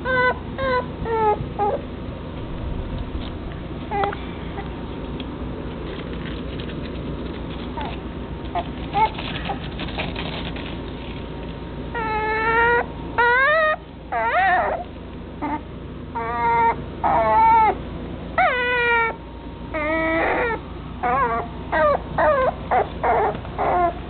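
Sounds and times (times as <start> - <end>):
puppy whining: 0.0 - 5.0, 6.0 - 10.6, 11.8 - 24.0.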